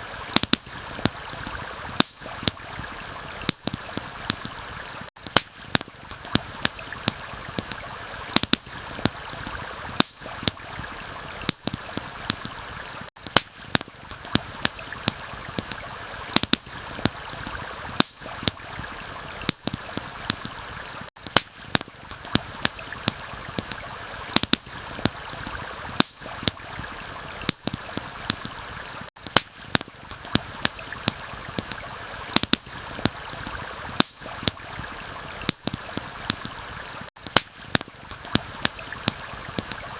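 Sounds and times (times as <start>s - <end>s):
campfire crackling and popping: 0.0s - 39.9s
stream flowing: 0.0s - 39.9s.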